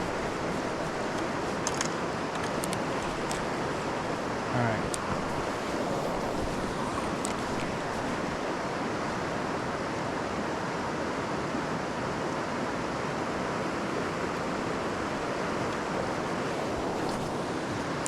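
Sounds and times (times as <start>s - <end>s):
creek water flowing: 0.0s - 11.4s, 13.0s - 18.0s.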